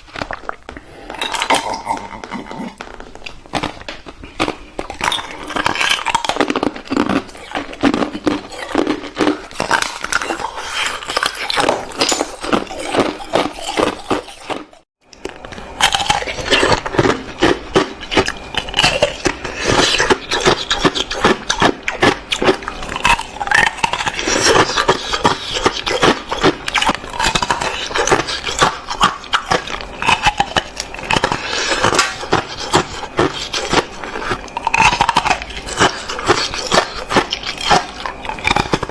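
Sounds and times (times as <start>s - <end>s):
chewing and crunching ice: 0.0s - 38.9s.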